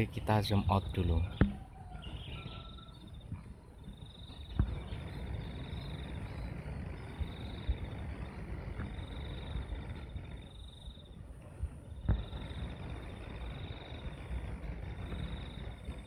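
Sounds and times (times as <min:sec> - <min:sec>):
insects trilling: 0:00.0 - 0:16.0
low steady rumble: 0:00.0 - 0:16.0.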